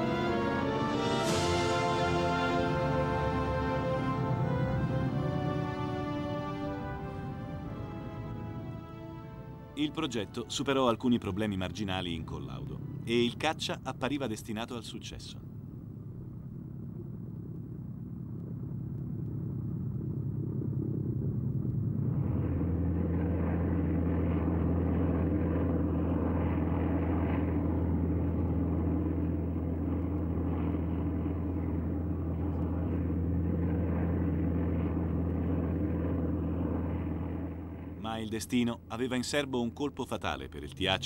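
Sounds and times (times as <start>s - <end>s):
propeller aircraft engine drone: 0.0s - 41.0s.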